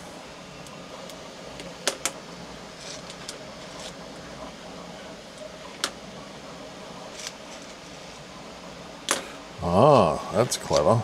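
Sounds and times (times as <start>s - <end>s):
fan hum: 0.0s - 11.0s.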